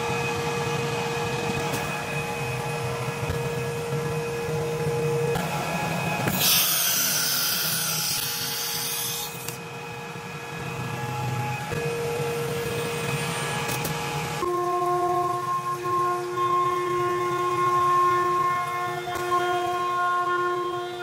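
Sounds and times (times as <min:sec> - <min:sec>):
cnc router humming and whining: 0:00.0 - 0:21.0.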